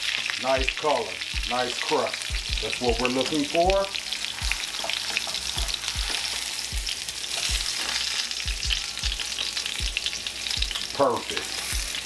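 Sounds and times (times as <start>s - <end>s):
oil sizzling in a skillet: 0.0s - 12.0s
tongs turning steaks: 1.7s - 12.0s.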